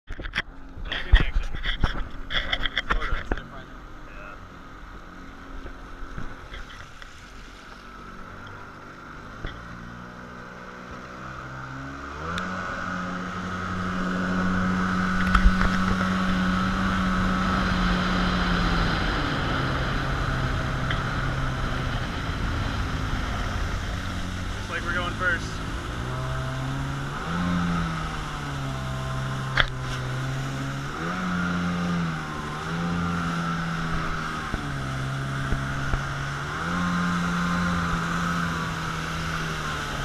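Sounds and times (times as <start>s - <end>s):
jet ski engine revving: 0.3s - 40.0s
water rushing: 0.6s - 40.0s.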